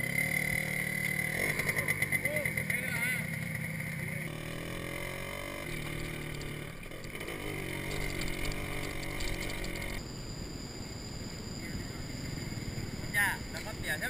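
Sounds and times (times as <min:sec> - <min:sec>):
distant rough motorcycle engine: 0:00.0 - 0:14.0
motorcycle engine running: 0:00.0 - 0:14.0.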